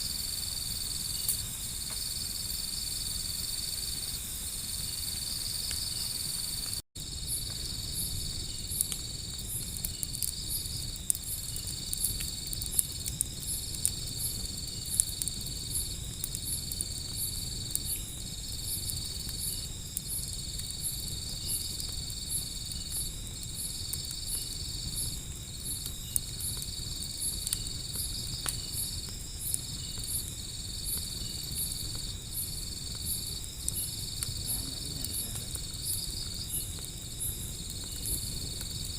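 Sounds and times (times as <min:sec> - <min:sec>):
insects chirring: 0:00.0 - 0:38.9
pulsing insect call: 0:00.0 - 0:38.9
wood fire crackling: 0:00.0 - 0:38.9.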